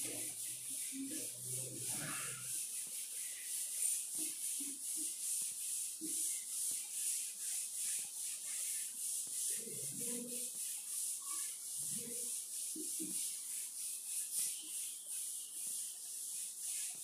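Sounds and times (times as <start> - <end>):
chalk duster wiping chalkboard: 0.0 - 17.0.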